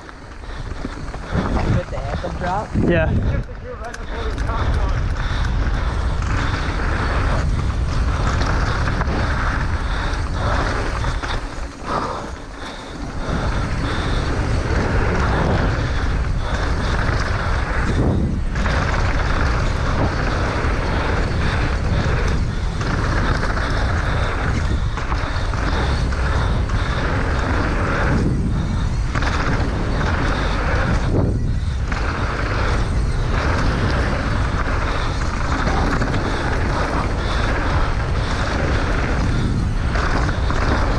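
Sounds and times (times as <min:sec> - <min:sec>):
bike rattling on dirt: 0:00.0 - 0:40.9
wind rushing over microphone: 0:00.0 - 0:40.9.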